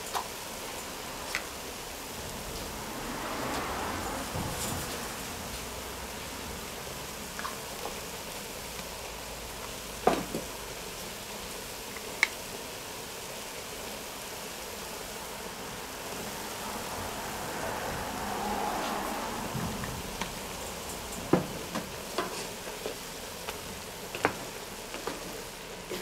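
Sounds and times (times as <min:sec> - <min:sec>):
food sizzling in a pot: 0:00.0 - 0:26.0.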